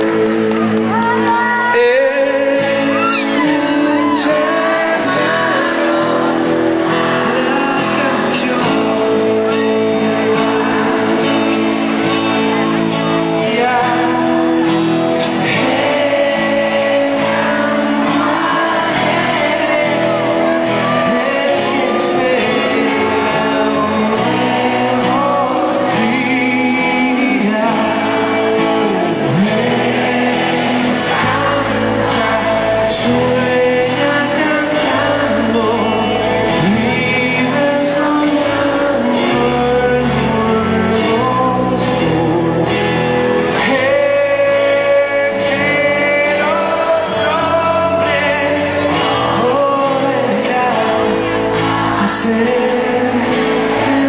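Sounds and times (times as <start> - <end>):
live pop band: 0.0 - 54.0
man singing: 0.0 - 54.0.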